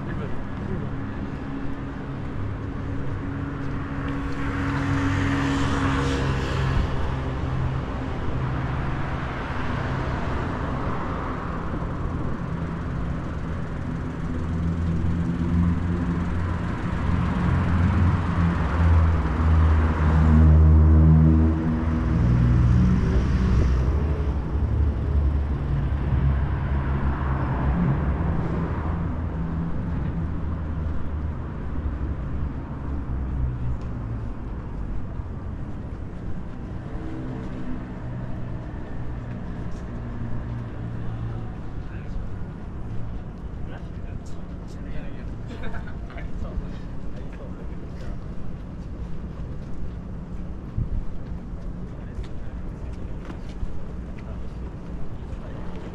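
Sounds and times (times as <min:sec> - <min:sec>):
road traffic passing: 0:00.0 - 0:55.9
vehicle engine rumble: 0:00.0 - 0:55.9.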